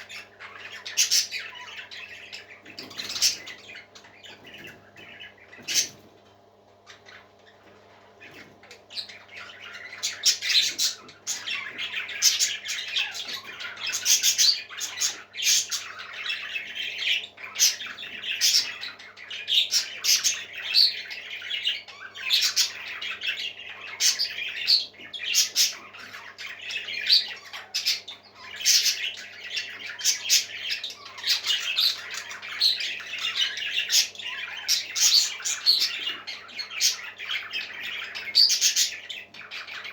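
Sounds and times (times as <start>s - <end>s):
parrots squawking: 0.0s - 39.9s.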